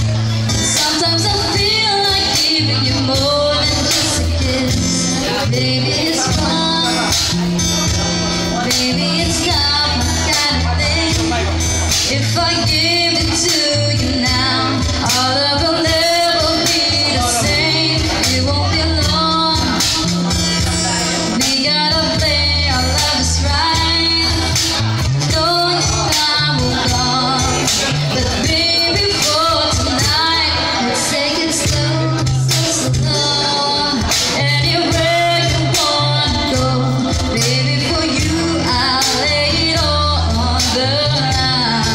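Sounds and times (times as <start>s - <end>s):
bass line: 0.0s - 41.9s
drums: 0.0s - 41.9s
live band playing: 0.0s - 41.9s
person singing: 0.2s - 41.9s.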